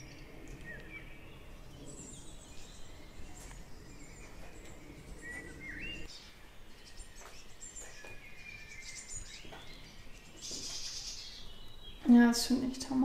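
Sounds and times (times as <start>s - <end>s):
low outdoor background noise: 0.0s - 13.0s
wild birds chirping: 0.0s - 13.0s.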